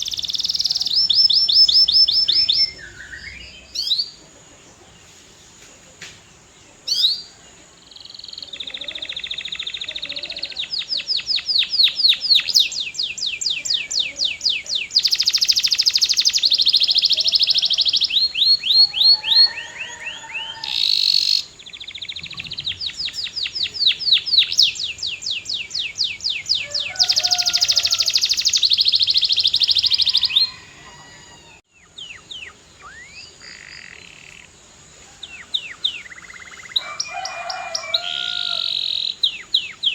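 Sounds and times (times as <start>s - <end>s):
canary singing trills: 0.0s - 5.0s, 6.8s - 39.9s.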